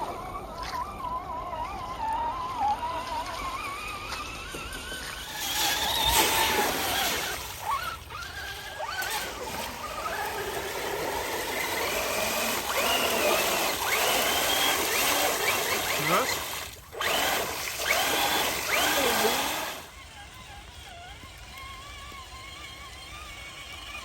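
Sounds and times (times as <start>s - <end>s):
toy car motor whining: 0.0s - 24.0s.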